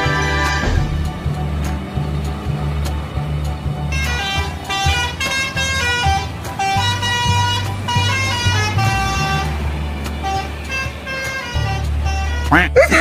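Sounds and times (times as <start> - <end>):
musical air horn playing notes: 0.0 - 2.4, 3.9 - 13.0
low steady rumble: 0.0 - 13.0.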